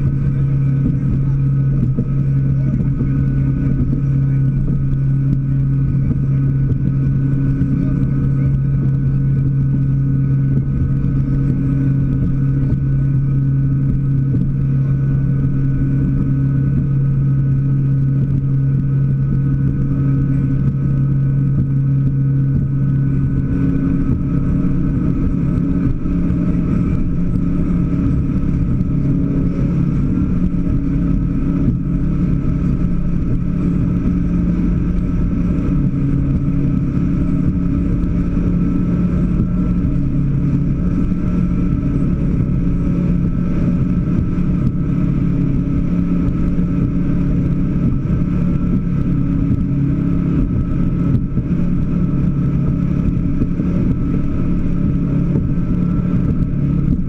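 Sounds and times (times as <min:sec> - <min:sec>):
boat engine droning: 0:00.0 - 0:57.0
rush of wind and water: 0:00.0 - 0:57.0.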